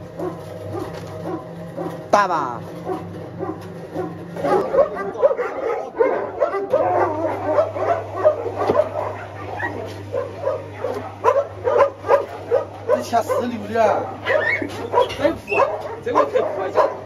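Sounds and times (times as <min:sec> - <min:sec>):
low machine hum: 0:00.0 - 0:17.0
dogs barking and yelping: 0:00.1 - 0:02.1, 0:02.8 - 0:17.0.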